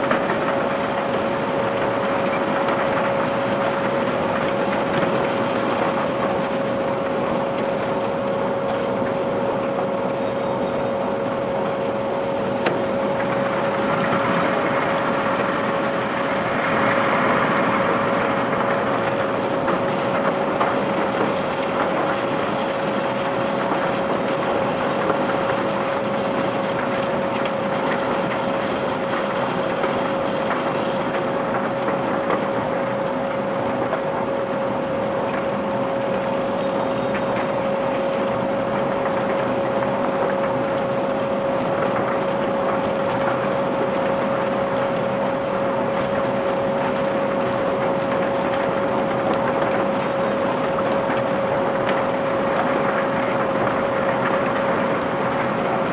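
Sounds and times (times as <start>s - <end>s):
conveyor belt rattle and clatter: 0.0s - 55.9s
conveyor steady whine: 0.0s - 55.9s.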